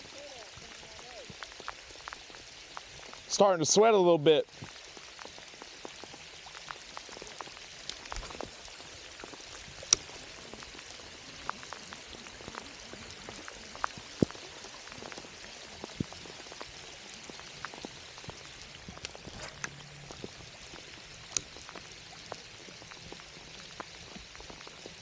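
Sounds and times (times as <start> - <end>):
raindrops ticking close by: 0.0 - 25.0
steady rain hiss: 0.0 - 25.0.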